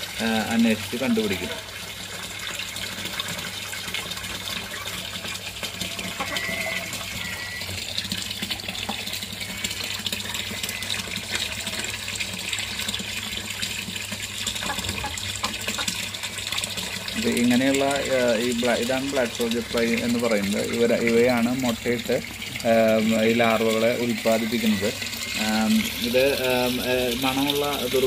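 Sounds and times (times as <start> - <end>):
water pouring into a tank: 0.0 - 28.0.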